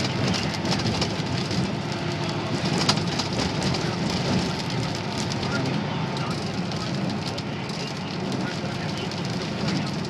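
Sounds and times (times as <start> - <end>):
heavy rain on windshield: 0.0 - 10.0
low road noise: 0.0 - 10.0.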